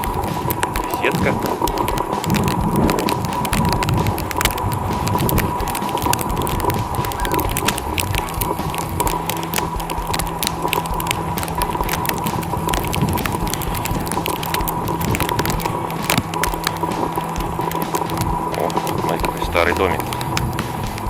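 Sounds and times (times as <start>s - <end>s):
footsteps crunching wet snow: 0.0s - 21.0s
low steady hum: 0.0s - 21.0s.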